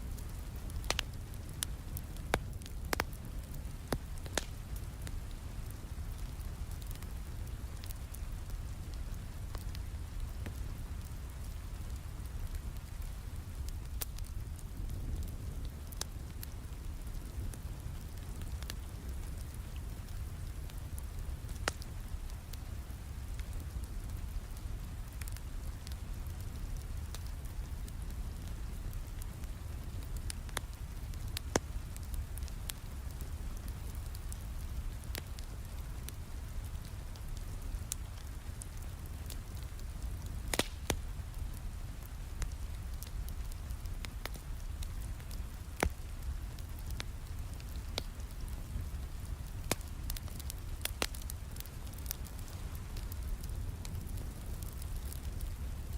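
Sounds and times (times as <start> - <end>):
steady rain: 0.0 - 55.9
wood fire crackling: 0.0 - 55.9.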